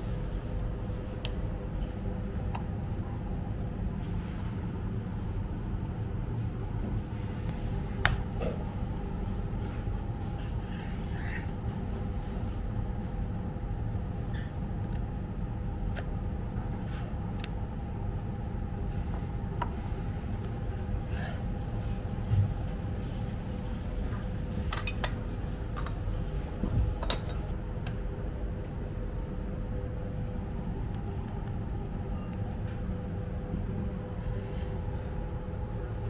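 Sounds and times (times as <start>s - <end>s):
faint hum: 0.0s - 36.0s
low room rumble: 0.0s - 36.0s.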